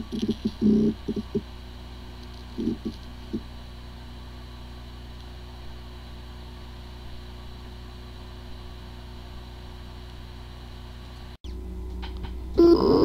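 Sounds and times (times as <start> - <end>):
hard disk drive humming: 0.0 - 13.0.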